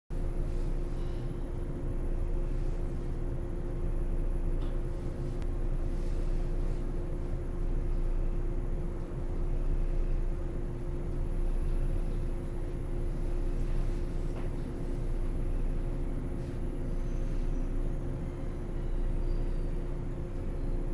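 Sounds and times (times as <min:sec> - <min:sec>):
train equipment hum: 0:00.1 - 0:20.9.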